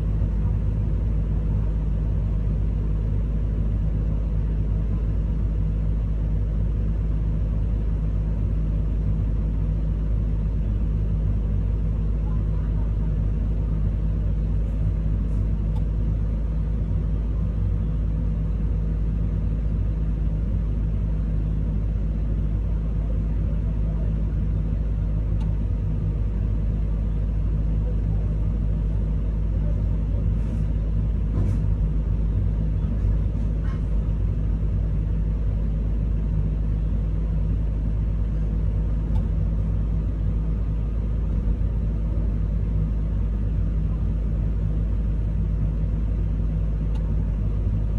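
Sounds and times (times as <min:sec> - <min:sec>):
excavator engine droning: 0:00.0 - 0:47.9.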